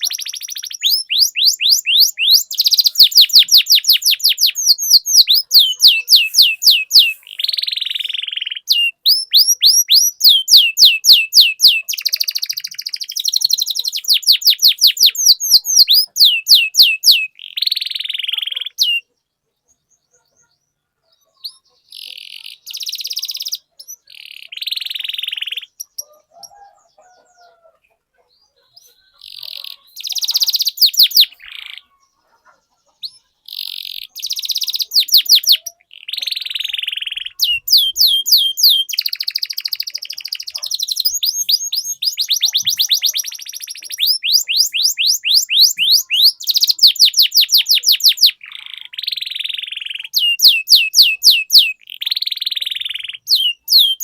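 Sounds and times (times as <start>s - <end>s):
canary singing with trills: 0.0s - 54.0s.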